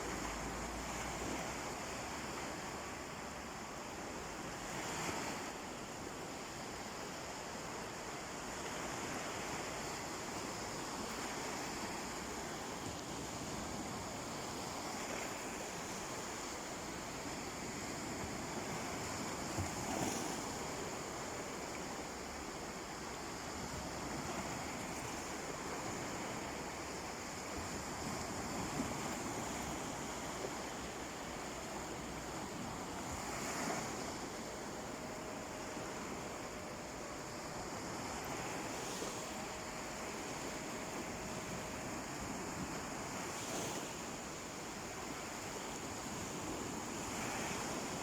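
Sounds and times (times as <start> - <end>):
sea waves breaking on beach: 0.0 - 48.0.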